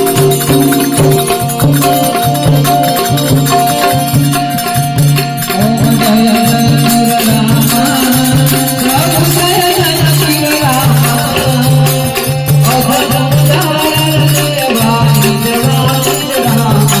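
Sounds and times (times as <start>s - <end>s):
devotional melody: 0.0s - 17.0s
drum beat: 0.0s - 17.0s
jingling rattle percussion: 0.0s - 17.0s.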